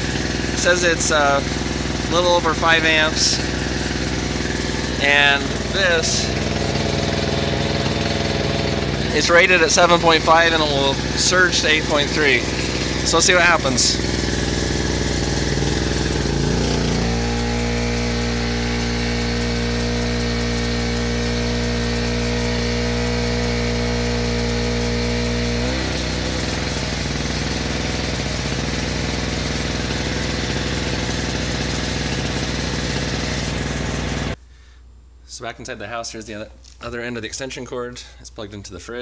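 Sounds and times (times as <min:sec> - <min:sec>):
portable generator engine running: 0:00.0 - 0:34.4.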